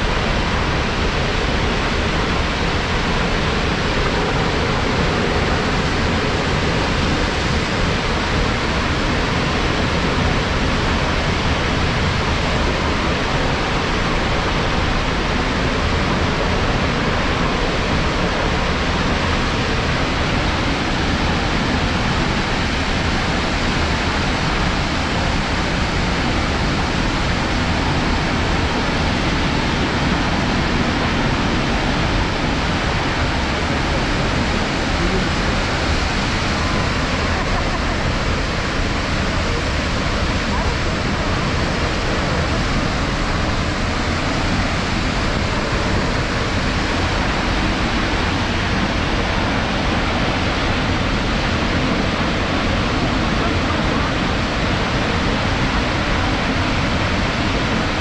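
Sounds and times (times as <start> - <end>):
fast-moving water rushing: 0.0 - 58.0.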